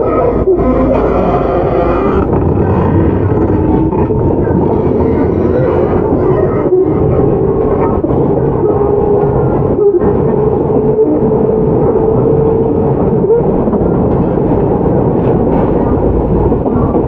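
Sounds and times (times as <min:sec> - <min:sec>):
deep low rumble: 0:00.0 - 0:17.0
wheels rumbling on rail: 0:00.0 - 0:17.0.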